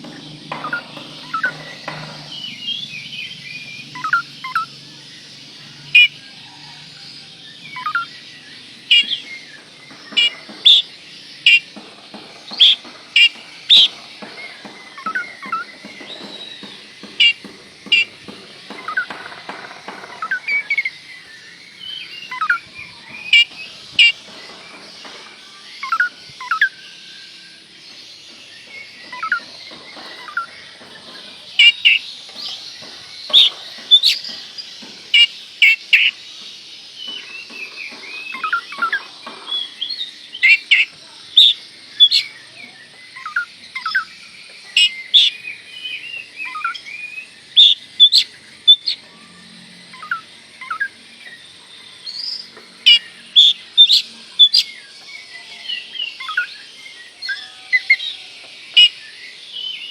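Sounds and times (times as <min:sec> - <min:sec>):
bird singing whistled notes: 0:00.0 - 0:06.8, 0:07.4 - 0:11.8, 0:12.5 - 0:19.2, 0:20.1 - 0:24.4, 0:25.4 - 0:30.8, 0:31.5 - 0:49.0, 0:50.0 - 0:59.9.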